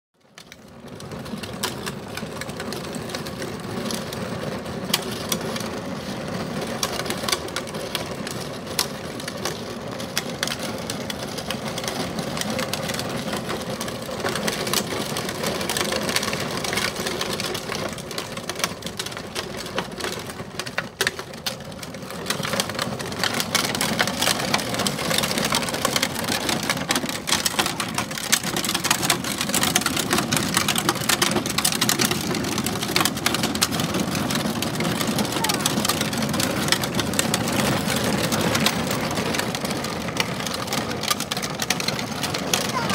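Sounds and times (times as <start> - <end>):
plastic wheels rattling on asphalt: 0.2 - 42.9
toy tractor mechanical whir: 6.6 - 42.9.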